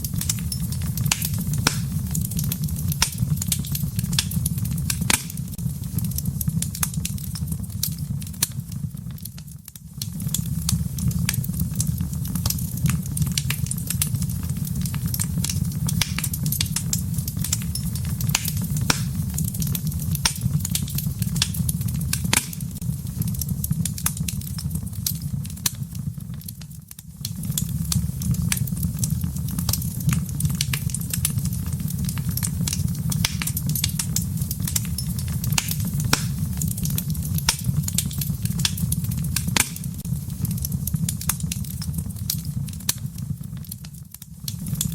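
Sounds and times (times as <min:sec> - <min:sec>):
fire crackling and popping: 0:00.0 - 0:44.9
low rumble of flames: 0:00.0 - 0:44.9.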